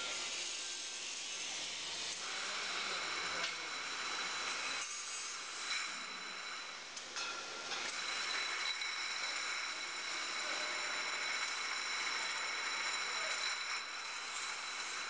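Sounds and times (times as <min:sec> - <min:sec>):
machine hissing and whining: 0:00.0 - 0:15.0.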